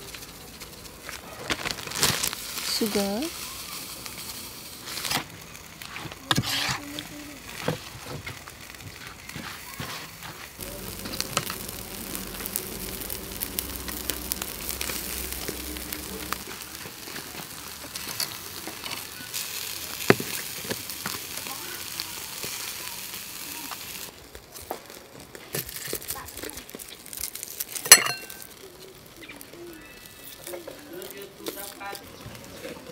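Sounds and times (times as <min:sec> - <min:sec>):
fish sizzling on a grill: 0:00.0 - 0:32.9.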